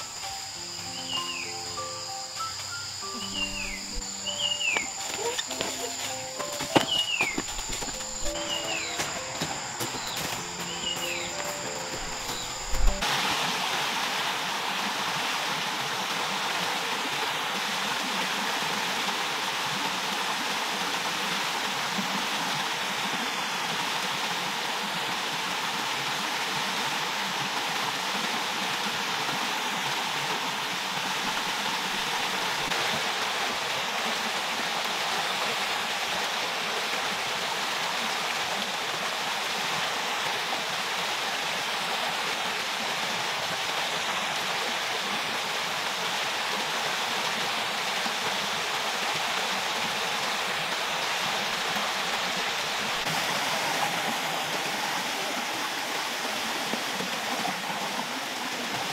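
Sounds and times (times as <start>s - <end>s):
stream running over rocks: 2.6s - 58.9s.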